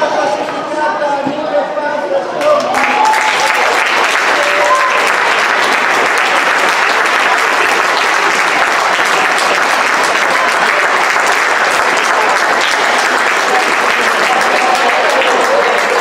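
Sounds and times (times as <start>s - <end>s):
crowd applauding: 2.4s - 16.0s.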